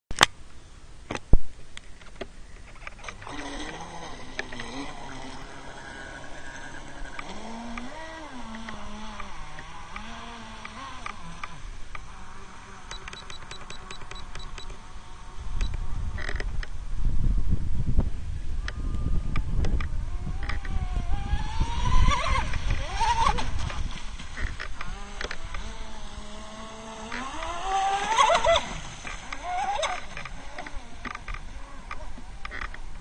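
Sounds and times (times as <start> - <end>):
speedboat electric motor whining: 2.7 - 16.7, 18.6 - 33.0.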